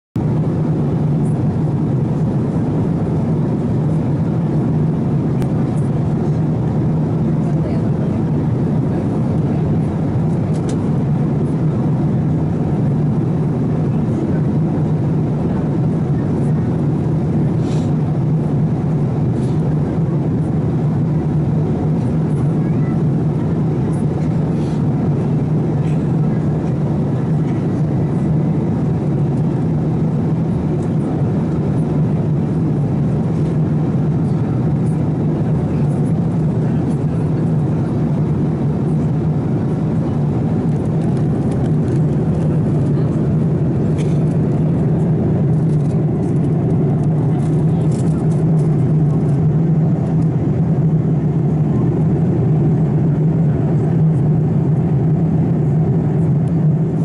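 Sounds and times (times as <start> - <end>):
airliner cabin air rush: 0.2 - 57.0
constant low hum: 0.2 - 57.0.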